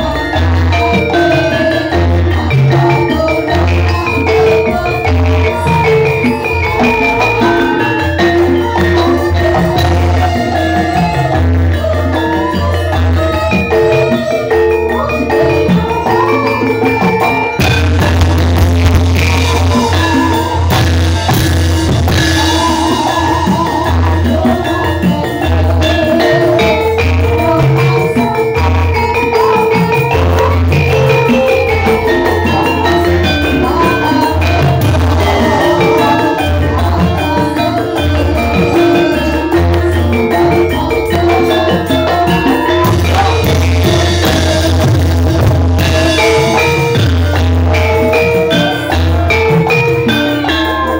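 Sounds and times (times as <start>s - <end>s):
drums: 0.0s - 50.9s
metallophones ringing melody: 0.0s - 50.9s
music with pulsing bass: 0.0s - 50.9s.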